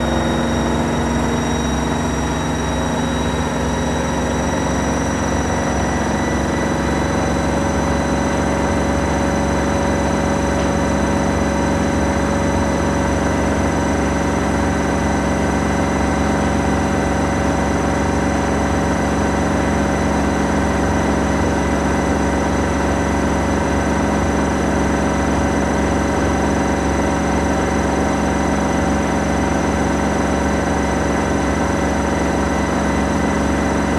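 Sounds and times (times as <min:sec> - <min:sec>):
washing machine motor humming: 0:00.0 - 0:33.9.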